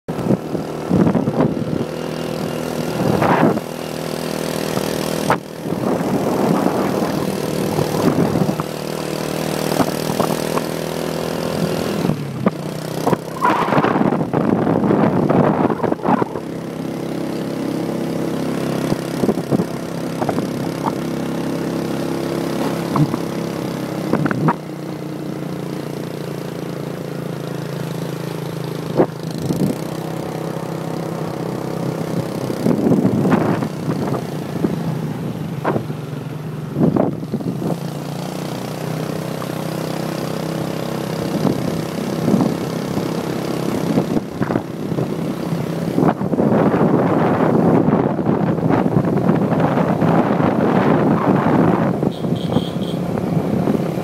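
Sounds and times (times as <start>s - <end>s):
motorbike engine running: 0.1s - 54.0s.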